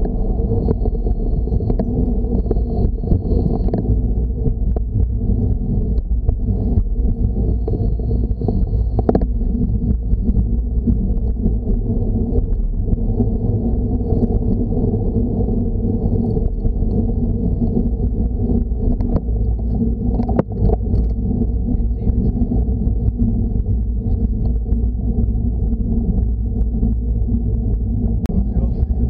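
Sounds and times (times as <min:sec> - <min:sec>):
wind and road noise rumble: 0:00.0 - 0:29.0.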